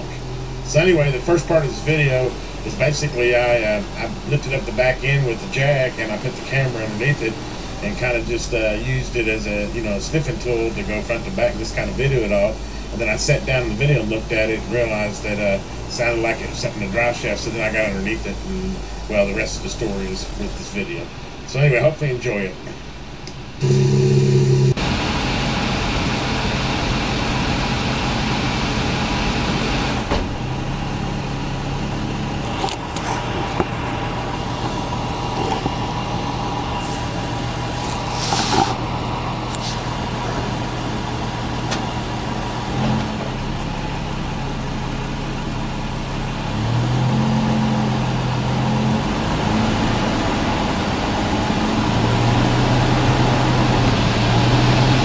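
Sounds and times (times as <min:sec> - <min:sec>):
engine and drivetrain humming: 0:00.0 - 0:21.5, 0:22.6 - 0:55.0.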